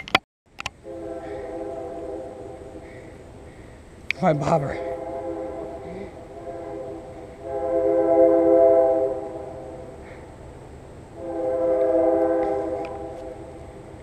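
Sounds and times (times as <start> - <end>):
train horn blasts: 0.8 - 10.2, 11.1 - 13.9.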